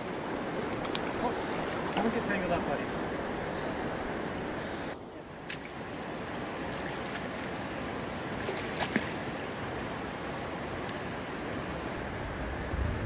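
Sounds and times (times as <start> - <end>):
river running over stones: 0.0 - 13.0.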